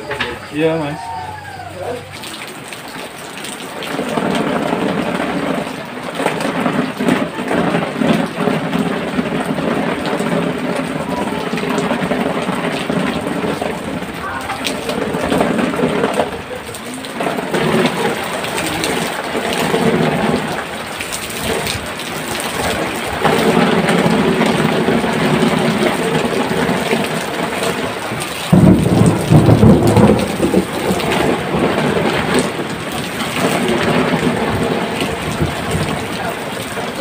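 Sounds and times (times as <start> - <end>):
heavy rain falling: 0.0 - 37.0
rumble of thunder: 3.8 - 37.0.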